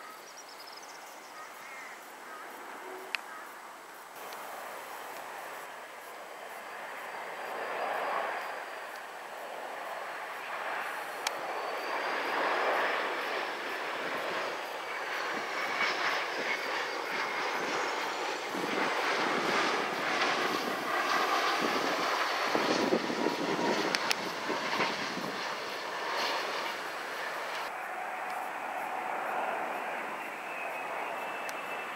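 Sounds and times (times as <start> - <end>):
jet plane passing by: 4.2 - 31.9.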